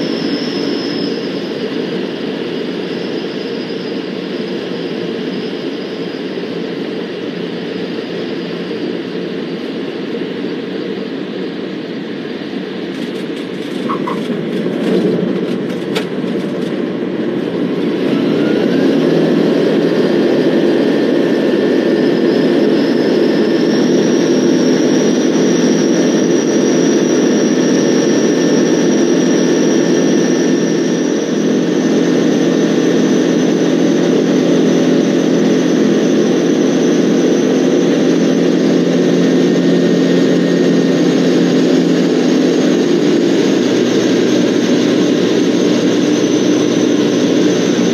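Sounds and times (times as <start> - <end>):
aircraft engine and propeller: 0.0 - 47.9
high engine whine: 0.0 - 47.9.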